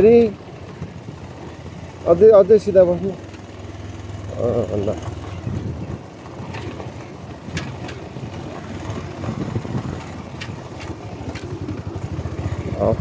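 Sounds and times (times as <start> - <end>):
knocks and rattles from bumps: 0.0 - 13.0
motorcycle engine running: 0.0 - 13.0.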